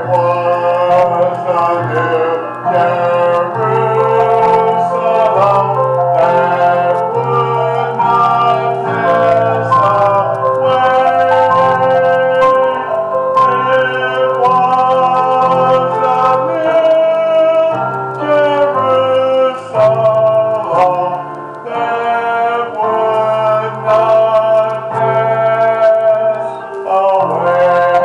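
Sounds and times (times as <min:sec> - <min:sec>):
hymn with keyboard chords: 0:00.0 - 0:28.0.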